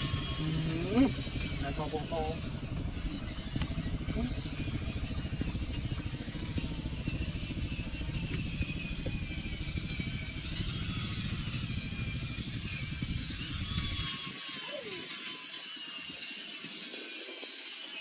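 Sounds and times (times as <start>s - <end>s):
model truck motor rumble and whine: 0.0s - 16.2s.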